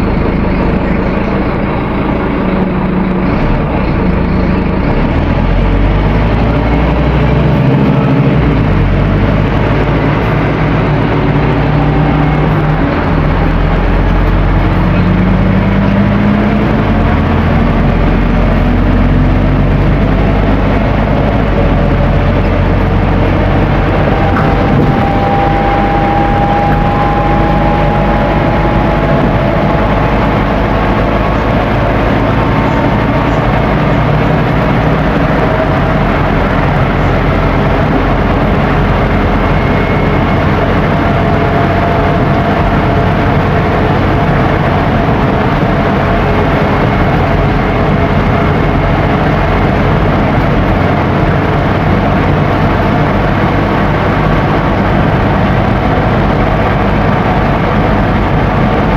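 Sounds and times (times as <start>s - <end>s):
bus diesel engine: 0.0s - 58.9s
faint gliding whine: 0.0s - 58.9s
road noise: 0.0s - 58.9s.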